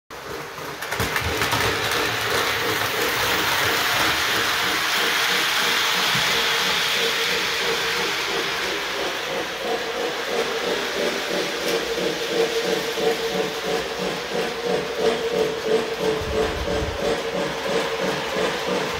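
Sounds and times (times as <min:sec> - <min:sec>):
model train running on track: 0:00.1 - 0:18.9.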